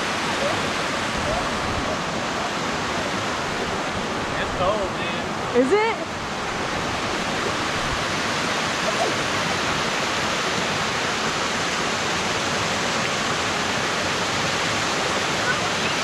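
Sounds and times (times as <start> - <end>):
waterfall pouring over rocks: 0.0 - 16.0.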